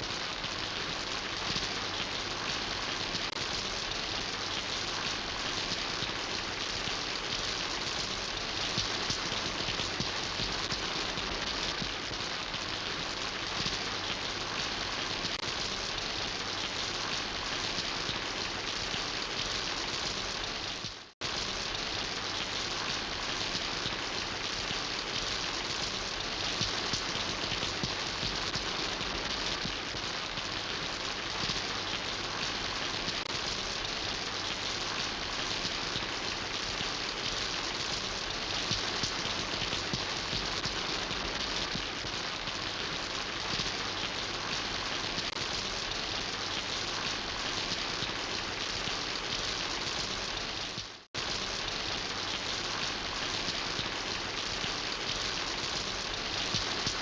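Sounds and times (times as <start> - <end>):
dense rainfall: 0.0 - 57.0.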